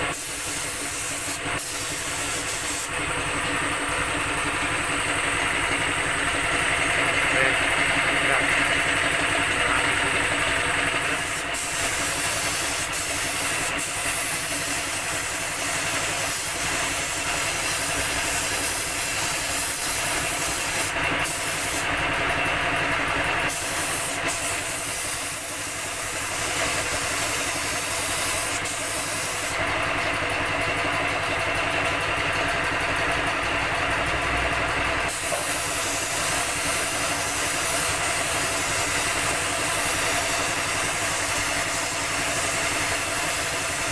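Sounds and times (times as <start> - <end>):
paint spray gun hissing: 0.0 - 7.2, 8.7 - 21.9, 23.5 - 29.6, 35.1 - 43.9
air compressor humming: 0.0 - 43.9.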